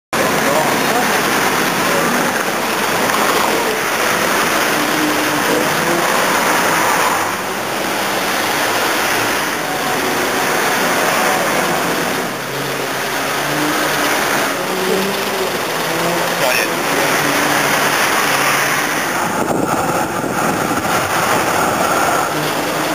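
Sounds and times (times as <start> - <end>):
street traffic rushing: 0.1 - 22.9
cars passing close by: 0.2 - 22.9.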